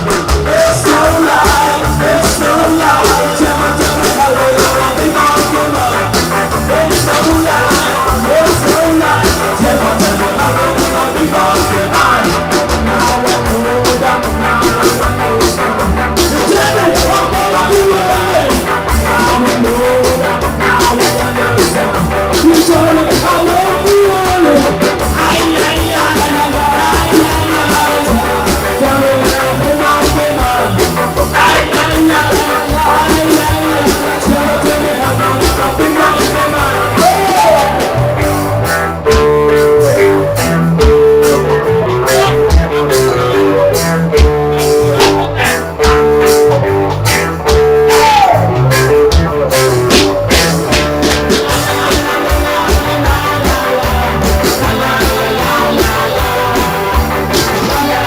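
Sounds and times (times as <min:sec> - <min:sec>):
person singing: 0:00.0 - 0:58.0
ska band playing live: 0:00.0 - 0:58.0.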